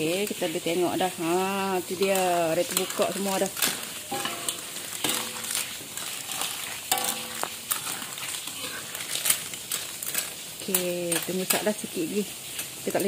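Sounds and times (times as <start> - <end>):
clams sizzling in wok: 0.0 - 13.0
spatula stirring shells: 0.0 - 13.0.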